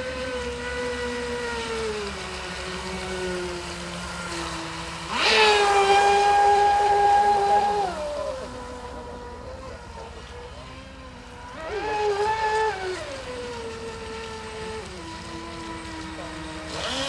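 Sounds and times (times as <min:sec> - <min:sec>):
model speedboat motor whining: 0:00.0 - 0:17.0.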